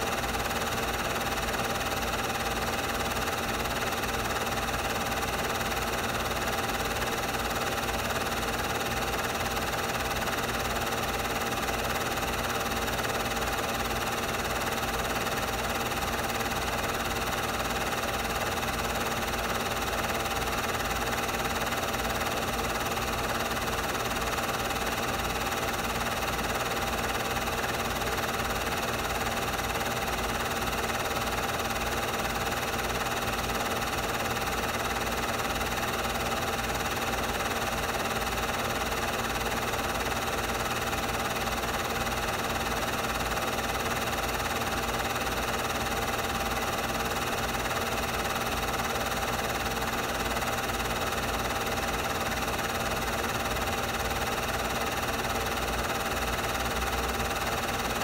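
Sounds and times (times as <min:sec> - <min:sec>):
film projector motor humming: 0:00.0 - 0:58.0.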